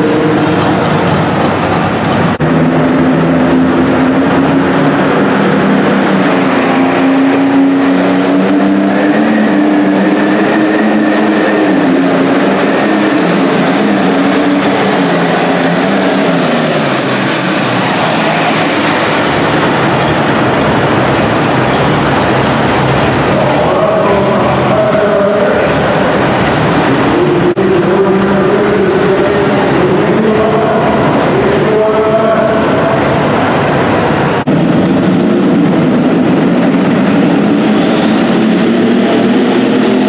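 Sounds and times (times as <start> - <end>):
pulling tractor engine whine: 0.0 - 40.0.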